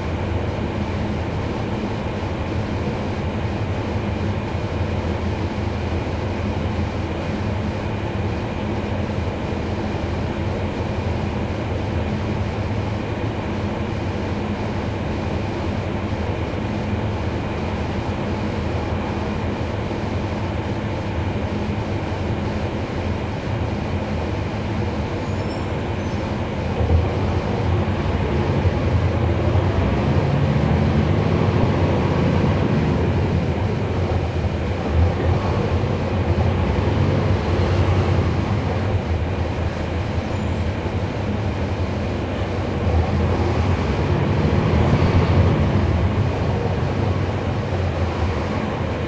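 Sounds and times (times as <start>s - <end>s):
bus engine and road rumble: 0.0s - 49.0s.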